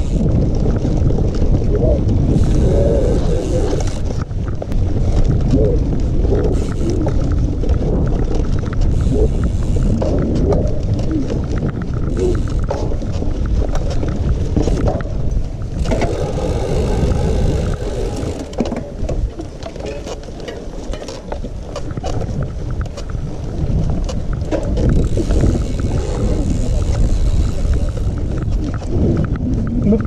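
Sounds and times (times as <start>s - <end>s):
bike rattling and clicking: 0.0s - 30.0s
wind rumbling on microphone: 0.0s - 30.0s.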